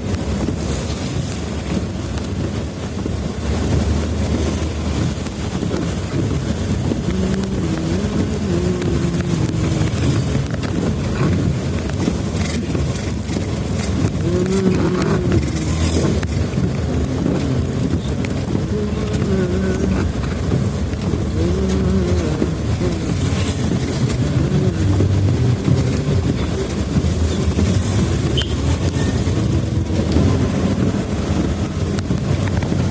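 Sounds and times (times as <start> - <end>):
road and wind rumble: 0.0 - 32.9
vehicle engine hum: 0.0 - 32.9.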